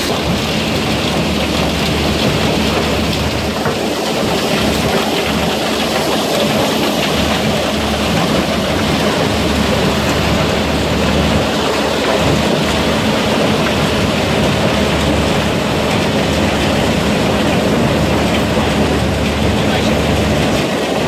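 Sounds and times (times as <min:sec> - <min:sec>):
clatter of stone in crusher: 0:00.0 - 0:21.0
low machine drone: 0:00.0 - 0:21.0.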